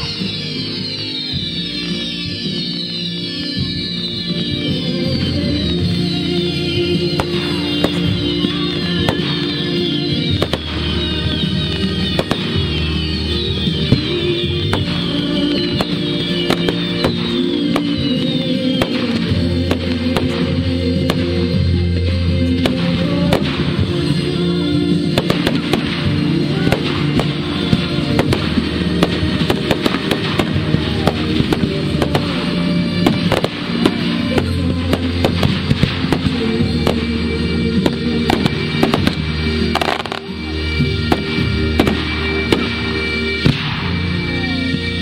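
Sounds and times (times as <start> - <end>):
fireworks bangs and crackles: 0.0 - 45.0
music: 0.0 - 45.0.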